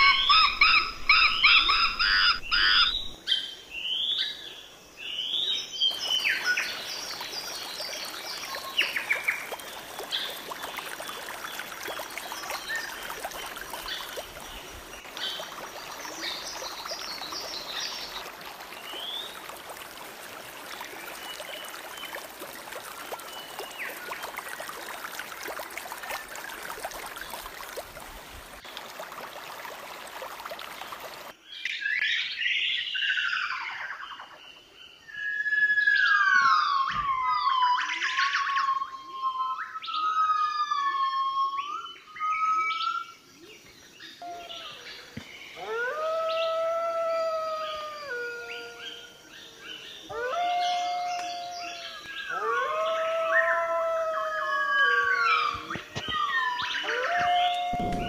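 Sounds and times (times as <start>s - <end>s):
stream running water: 0.0s - 32.0s, 41.8s - 58.0s.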